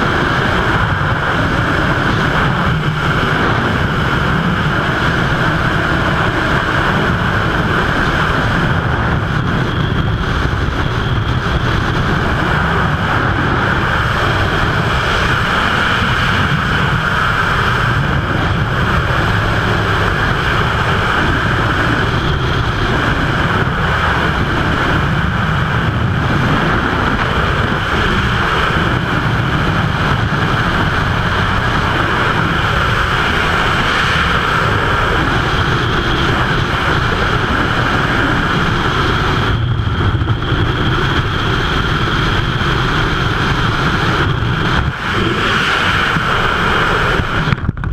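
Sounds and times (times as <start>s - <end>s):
loud wind rush on microphone: 0.0s - 47.9s.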